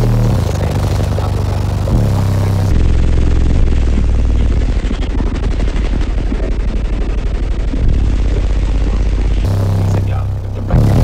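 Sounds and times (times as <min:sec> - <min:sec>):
deep bass crackling rattle: 0:00.0 - 0:11.0.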